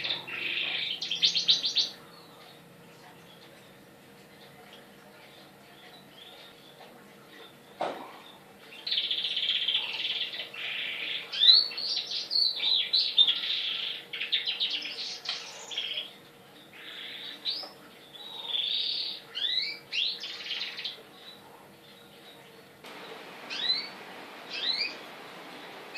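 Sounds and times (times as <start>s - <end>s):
canary singing: 0.0s - 3.8s, 5.4s - 25.9s.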